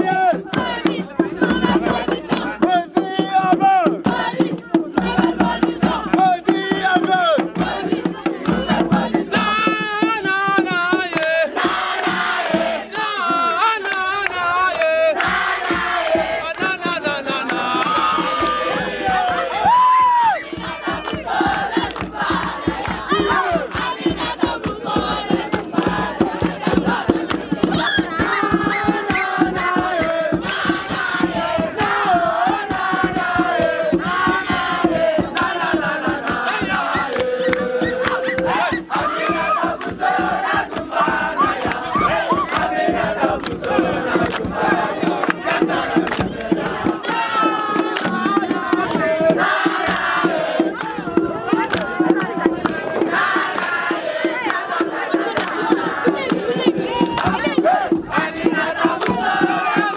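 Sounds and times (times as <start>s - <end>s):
crowd shouting: 0.0s - 9.6s, 11.2s - 59.9s
fast percussive beat: 0.0s - 59.9s
group of voices singing and chanting: 0.0s - 59.9s.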